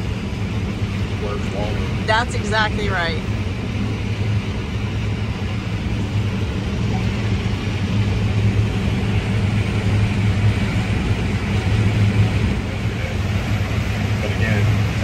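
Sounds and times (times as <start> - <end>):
combine harvester drone: 0.0 - 15.0.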